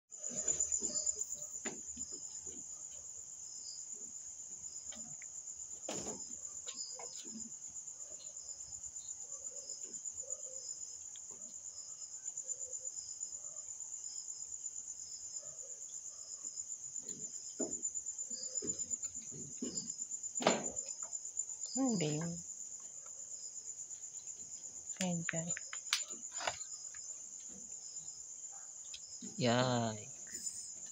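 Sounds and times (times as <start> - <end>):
cricket trilling: 0.1 - 30.9.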